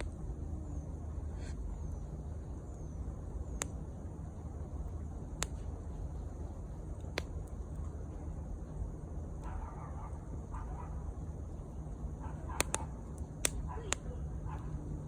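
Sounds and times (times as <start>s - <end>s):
campfire wood popping: 0.0s - 9.6s, 11.1s - 15.0s
low steady fire rumble: 0.0s - 15.0s.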